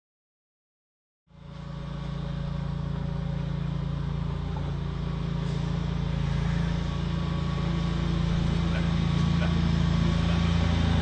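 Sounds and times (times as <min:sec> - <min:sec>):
engine humming: 0:01.3 - 0:11.0.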